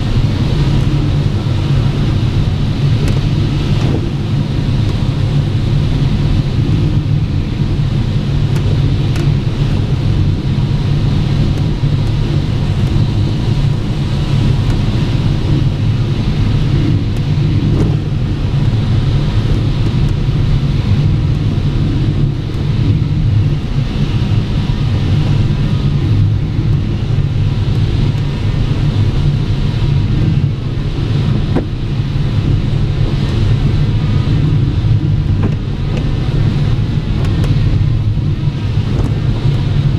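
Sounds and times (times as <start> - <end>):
airflow rushing over canopy: 0.0 - 39.9
wind buffeting rumble: 0.0 - 39.9.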